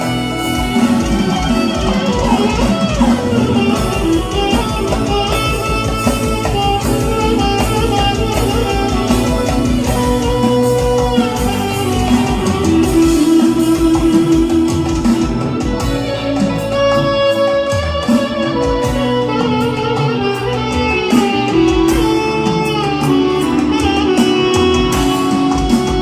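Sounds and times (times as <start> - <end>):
band music with guitar lead: 0.0 - 26.0.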